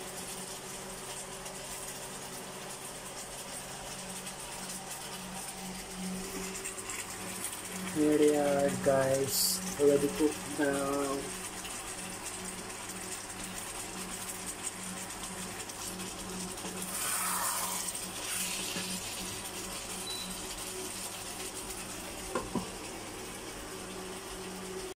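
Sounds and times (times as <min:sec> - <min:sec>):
sauce sizzling in a wok: 0:00.0 - 0:24.9.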